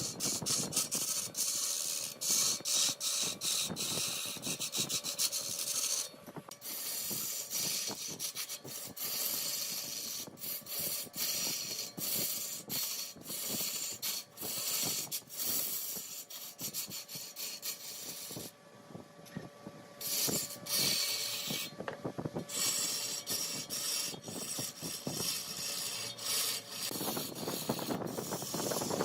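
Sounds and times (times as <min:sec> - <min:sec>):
tool scraping spinning wood: 0:00.0 - 0:18.6, 0:20.0 - 0:29.0
wood lathe turning: 0:00.0 - 0:18.6, 0:20.0 - 0:29.0.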